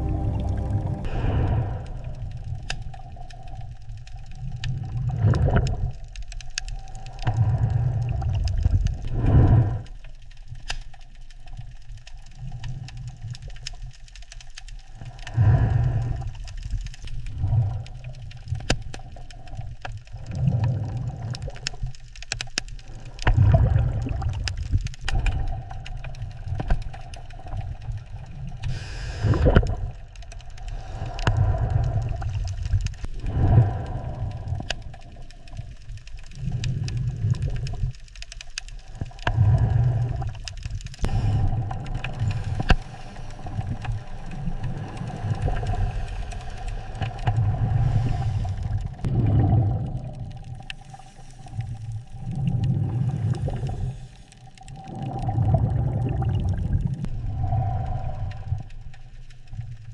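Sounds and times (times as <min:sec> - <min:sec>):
deep underwater rumbling: 0:00.0 - 0:59.9.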